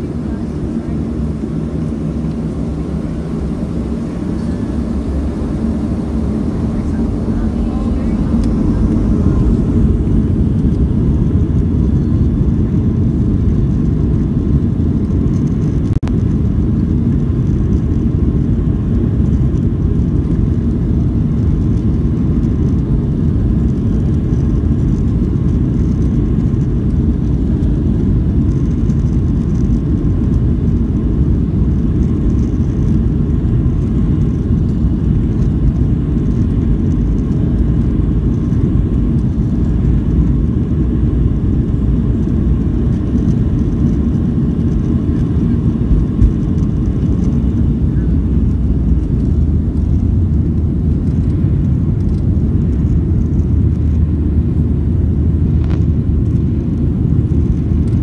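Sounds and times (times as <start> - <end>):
jet engines and runway rumble: 0.0 - 58.0.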